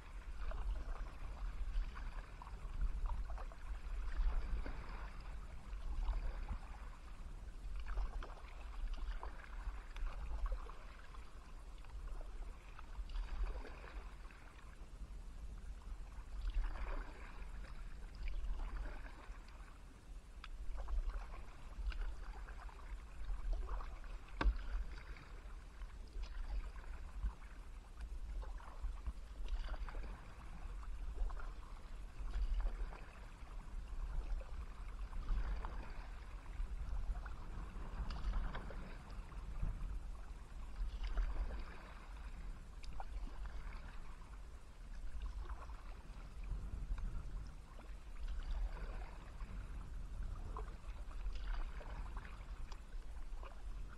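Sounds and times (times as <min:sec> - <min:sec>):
paddle strokes in water: 0:00.0 - 0:53.9.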